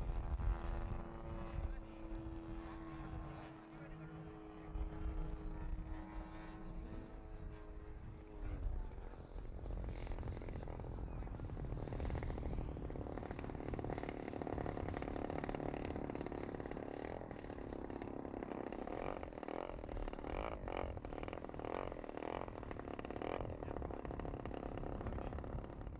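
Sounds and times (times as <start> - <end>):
model airplane engine running: 0.0 - 25.9.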